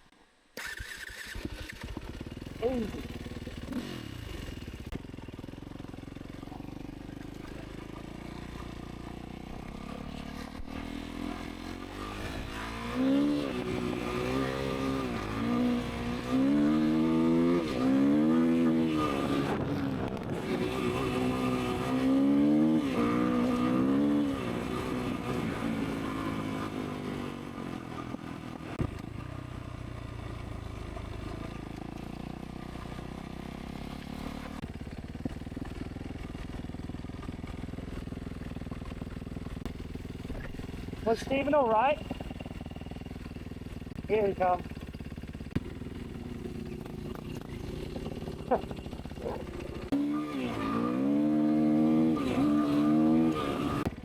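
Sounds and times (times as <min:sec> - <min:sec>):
motorcycle engine revving: 0:00.6 - 0:54.0.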